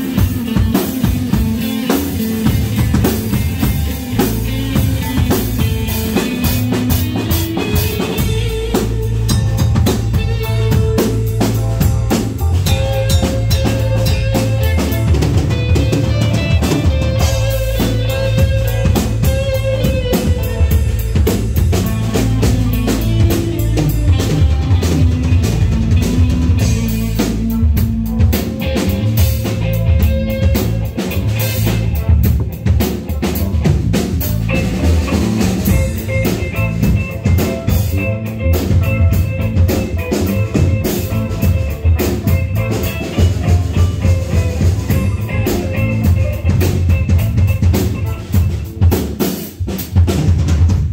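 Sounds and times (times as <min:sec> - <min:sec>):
keyboard: 0:00.0 - 0:49.6
drum kit beat: 0:00.0 - 0:50.9
electric bass: 0:00.0 - 0:50.9
electric guitar: 0:00.0 - 0:50.9.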